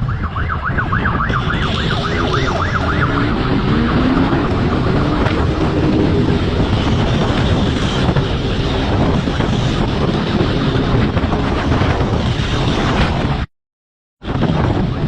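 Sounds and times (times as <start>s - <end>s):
vehicle running: 0.0s - 13.5s
wind rushing on microphone: 0.0s - 13.5s, 14.2s - 15.0s.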